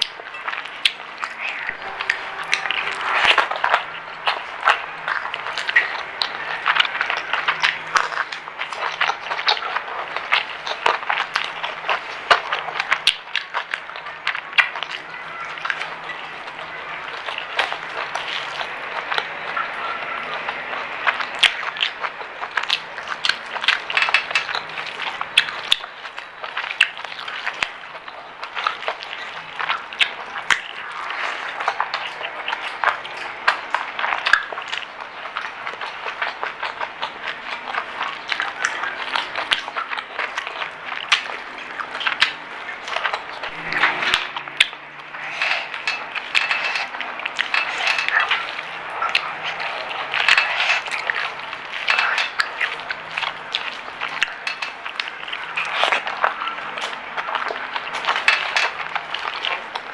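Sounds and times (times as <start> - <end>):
chewing crispy food: 0.0 - 59.9.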